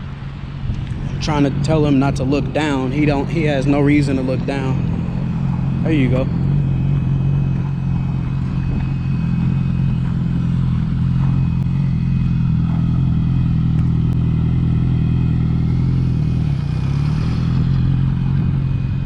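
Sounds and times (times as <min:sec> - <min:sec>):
motorcycle engine at low revs: 0:00.0 - 0:19.0.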